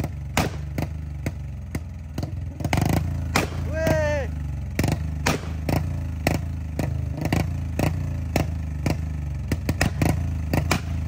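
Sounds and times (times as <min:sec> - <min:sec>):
exhaust pops: 0:00.0 - 0:11.0
motorcycle engine idling: 0:00.0 - 0:11.0.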